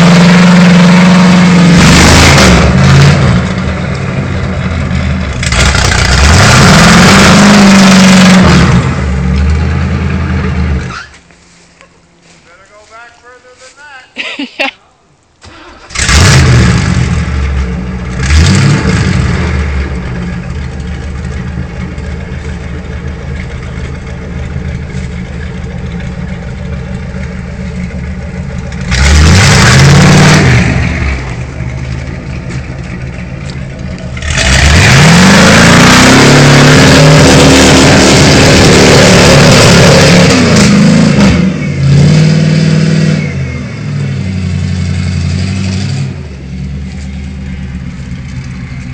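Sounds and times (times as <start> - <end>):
truck engine revving: 0.0 - 11.2, 15.4 - 48.9.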